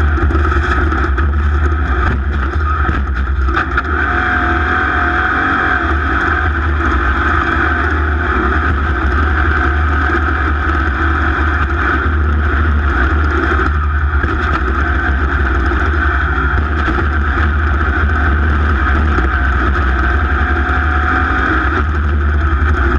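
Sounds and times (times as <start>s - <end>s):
racing engine at high revs: 0.0s - 22.9s.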